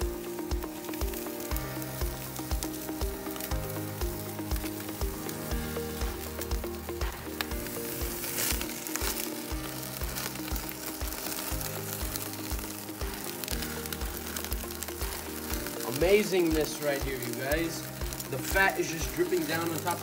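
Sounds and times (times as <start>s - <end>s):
background music with steady beat: 0.0s - 20.0s
meat sizzling on a grill: 0.0s - 20.0s
fat flaring up in fire: 0.1s - 20.0s.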